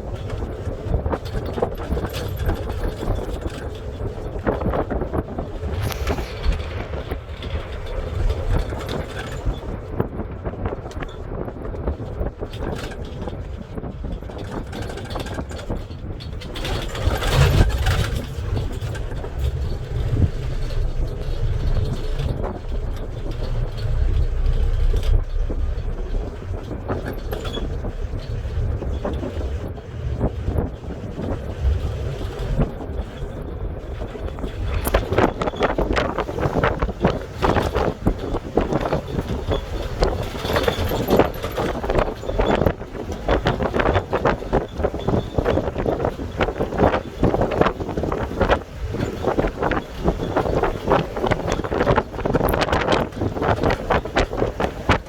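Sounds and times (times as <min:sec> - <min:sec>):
vehicle road and engine rumble: 0:00.0 - 0:55.0.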